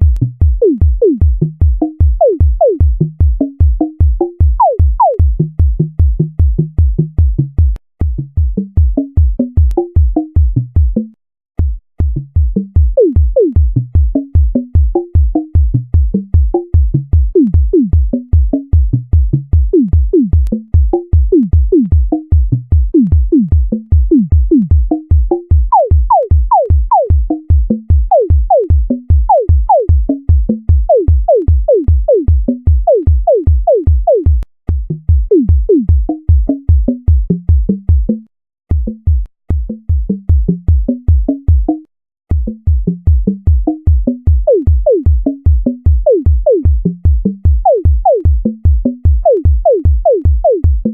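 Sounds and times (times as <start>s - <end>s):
steady low electronic beat: 0.0s - 50.9s.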